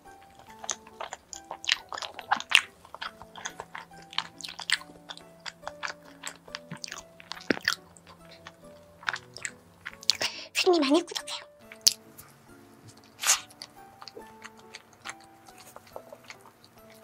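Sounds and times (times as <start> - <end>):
chewing and biting soft bun: 0.0 - 12.1, 12.8 - 17.0
quiet background music: 0.0 - 17.0.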